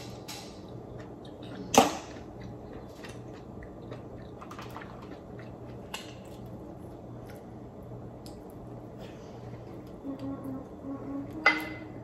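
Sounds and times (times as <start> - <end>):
quiet chewing: 0.6 - 10.3.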